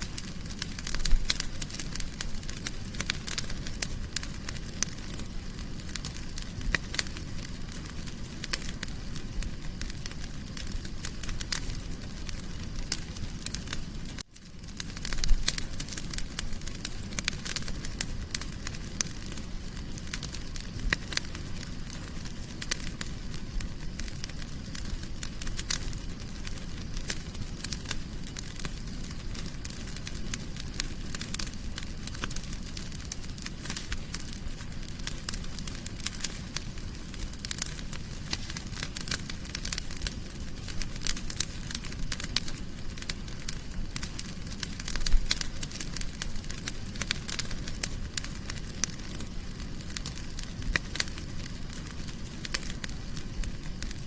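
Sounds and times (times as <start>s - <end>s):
soft low hiss: 0.0s - 54.0s
wood fire crackling: 0.0s - 54.0s.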